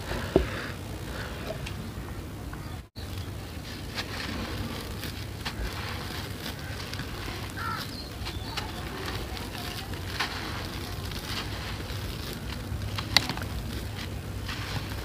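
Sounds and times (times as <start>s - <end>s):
grains trickling down: 3.0s - 15.0s
hands crushing gritty sand mix: 3.0s - 15.0s.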